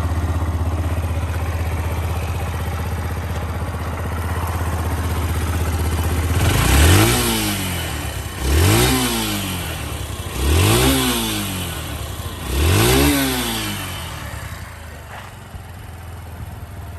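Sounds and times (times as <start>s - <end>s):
motorcycle engine idling and revving: 0.0s - 16.9s.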